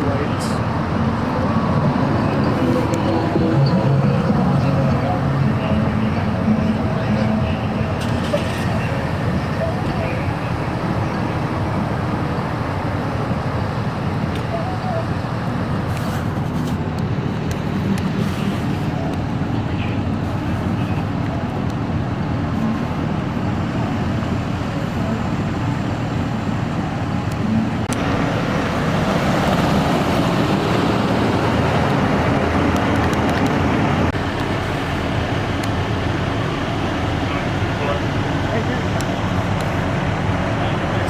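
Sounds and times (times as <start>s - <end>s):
vehicles driving past: 0.0s - 41.0s.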